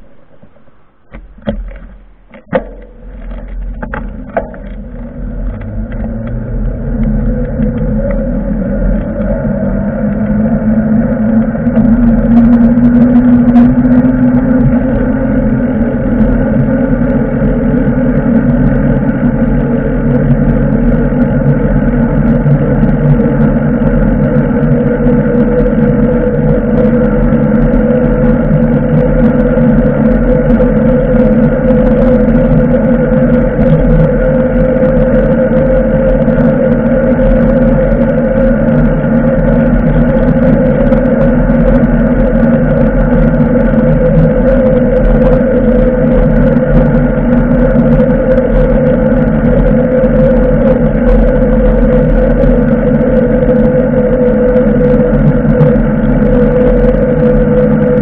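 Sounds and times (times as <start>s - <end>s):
bicycle ride rumble and hum: 0.0s - 58.0s.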